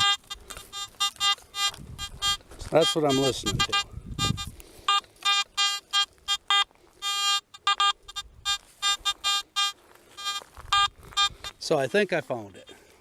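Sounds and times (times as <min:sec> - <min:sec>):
metal detector beeps: 0:00.0 - 0:12.0
metal detector held tone: 0:00.0 - 0:12.0.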